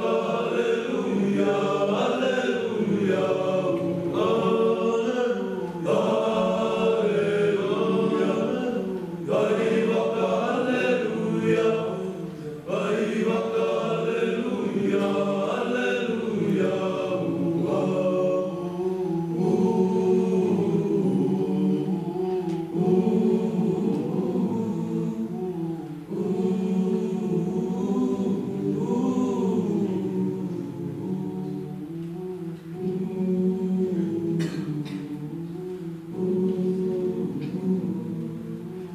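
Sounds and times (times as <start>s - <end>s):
boys' choir singing a cappella: 0.0s - 38.9s.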